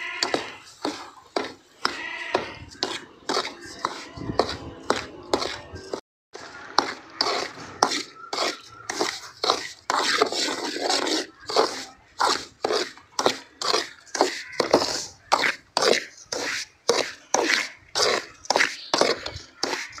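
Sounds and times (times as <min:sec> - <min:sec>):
spatula scraping a pan: 0:00.0 - 0:20.0.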